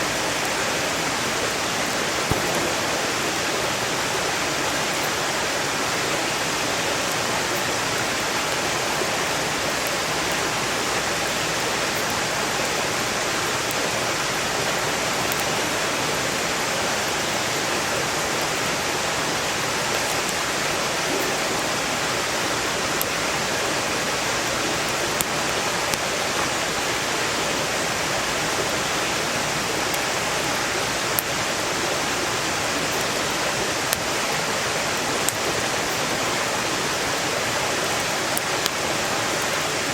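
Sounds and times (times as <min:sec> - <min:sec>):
campfire crackling and popping: 0:00.0 - 0:39.9
stream rushing: 0:00.0 - 0:39.9.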